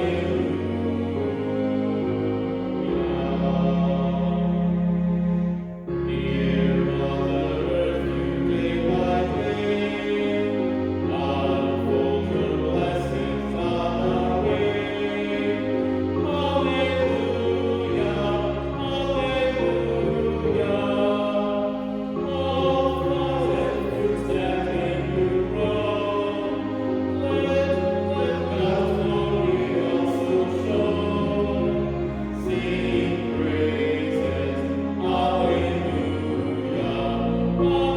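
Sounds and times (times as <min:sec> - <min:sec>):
choir singing sacred music: 0:00.0 - 0:37.9.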